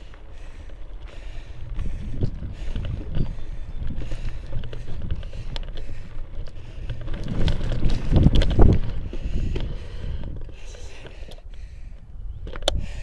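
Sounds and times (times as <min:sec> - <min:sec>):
bicycle clicks and rattles: 0:00.0 - 0:13.0
wind buffeting microphone: 0:00.0 - 0:13.0.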